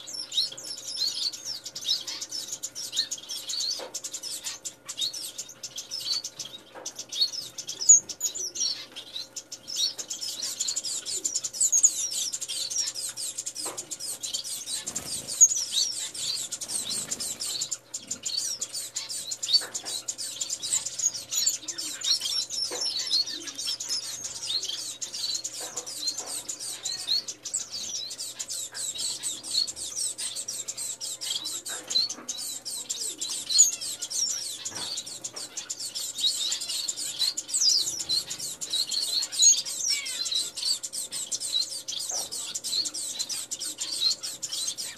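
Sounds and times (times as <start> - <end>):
caged finches chirping: 0.0 - 44.9.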